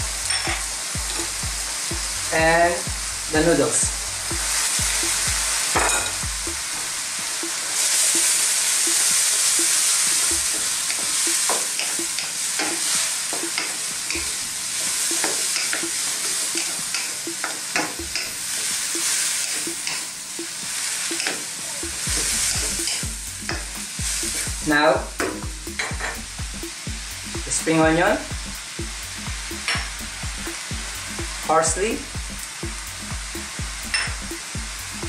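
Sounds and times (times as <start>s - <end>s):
noodles sizzling in a wok: 0.0s - 35.0s.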